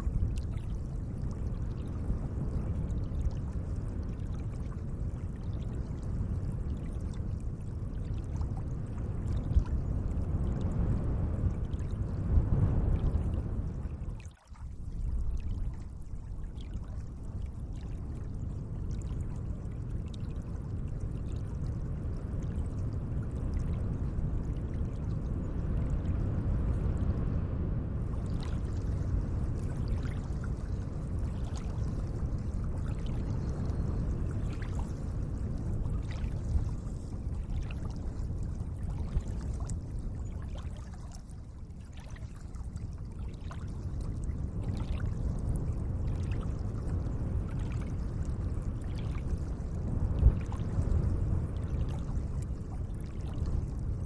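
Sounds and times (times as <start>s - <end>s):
small water drips: 0.0s - 9.8s, 12.7s - 25.3s, 28.1s - 49.6s
water lapping at lake edge: 0.0s - 9.8s, 12.9s - 23.7s, 24.4s - 25.2s, 28.1s - 53.9s.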